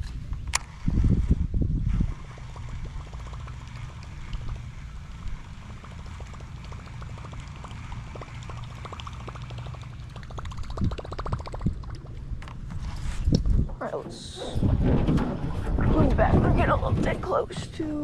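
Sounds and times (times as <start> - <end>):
low rumble: 0.0 - 18.0
water lapping against a boat: 0.5 - 18.0.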